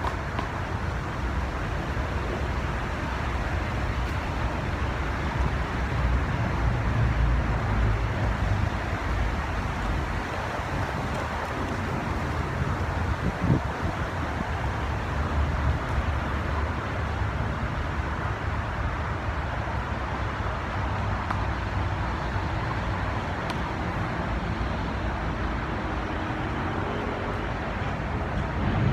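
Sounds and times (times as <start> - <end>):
city traffic rumble: 0.0 - 28.9.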